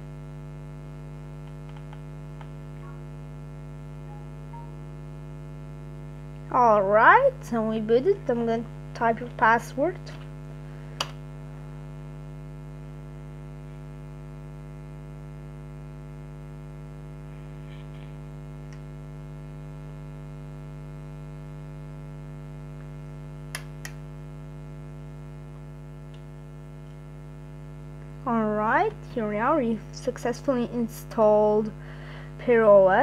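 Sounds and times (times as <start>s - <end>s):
buzzy electrical hum: 0.0s - 33.0s.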